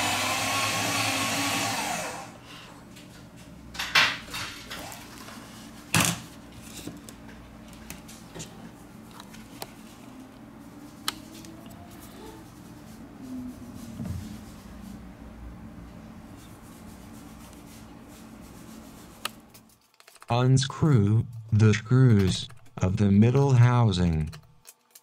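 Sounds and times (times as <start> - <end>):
low steady hum: 2.1 - 24.5.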